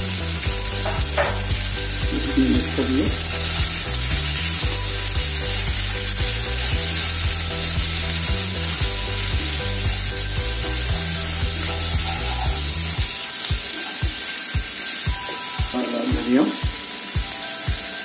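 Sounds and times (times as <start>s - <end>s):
background music with bass: 0.0s - 17.9s
chillies sizzling in oil: 0.0s - 18.0s.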